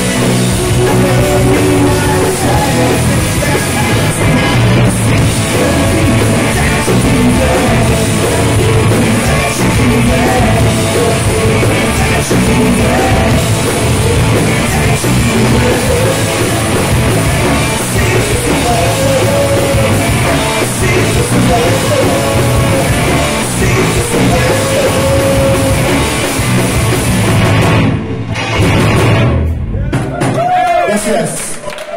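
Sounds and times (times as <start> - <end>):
men singing: 0.0 - 26.2
electric guitars: 0.0 - 30.4
electric bass: 0.0 - 30.5
drum kit: 0.0 - 31.2.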